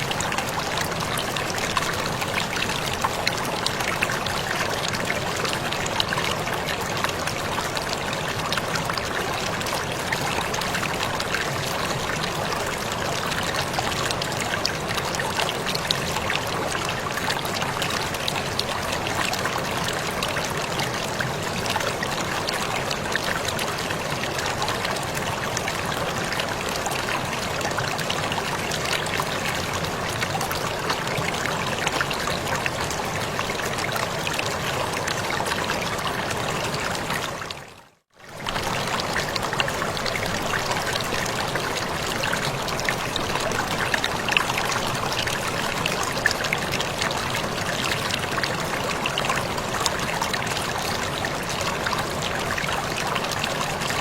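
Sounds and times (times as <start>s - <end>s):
waterfall rushing and splashing: 0.0s - 37.6s, 38.4s - 54.0s.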